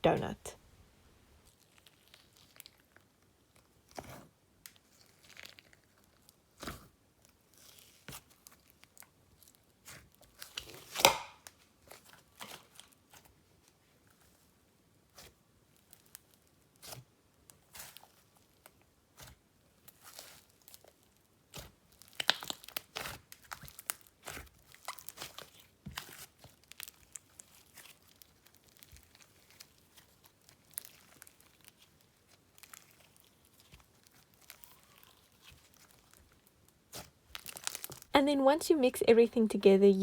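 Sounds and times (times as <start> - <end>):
slime sticky crackles and pops: 1.5 - 6.9, 7.6 - 13.3, 15.1 - 38.1.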